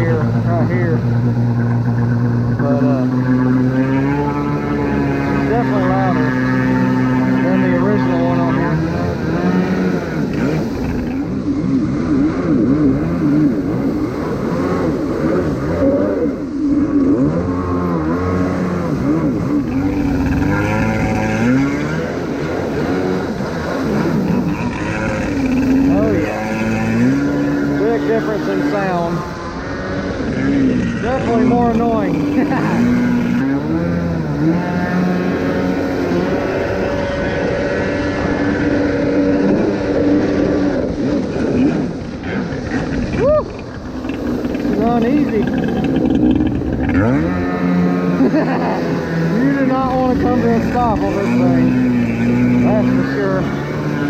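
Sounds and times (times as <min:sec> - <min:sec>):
jet ski engine revving: 0:00.0 - 0:54.0.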